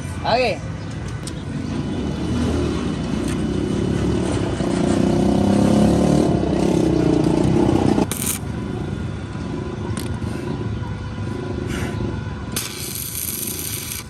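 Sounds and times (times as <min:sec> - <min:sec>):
motorcycle engine running: 0:01.2 - 0:14.0.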